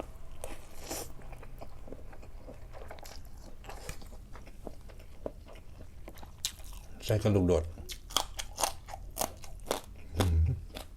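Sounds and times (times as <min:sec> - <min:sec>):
person chewing and biting: 0:00.0 - 0:07.0, 0:07.8 - 0:10.9.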